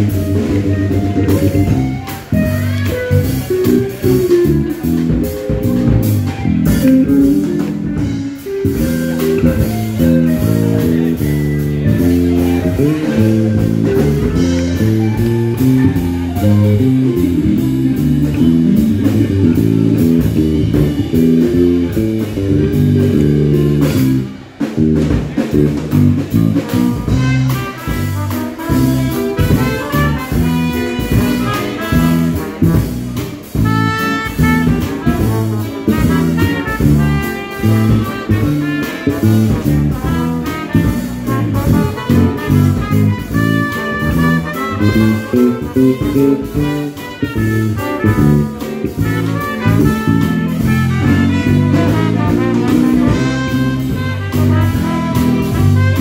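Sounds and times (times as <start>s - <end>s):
saxophone: 0.0s - 24.6s, 26.4s - 56.0s
trumpet: 0.0s - 24.6s, 25.5s - 56.0s
drums: 0.0s - 56.0s
electric bass guitar solo: 0.0s - 56.0s
trombone: 0.0s - 56.0s.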